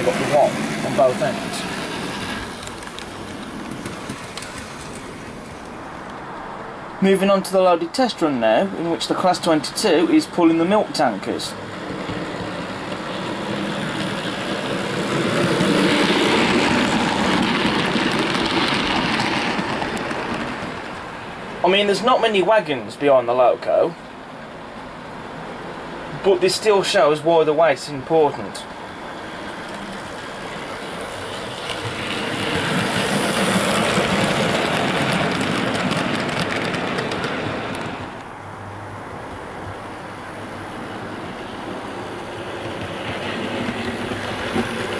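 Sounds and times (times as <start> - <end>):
model train wheels rumbling on track: 0.0 - 5.8, 8.0 - 22.7, 26.1 - 38.2, 40.7 - 44.9.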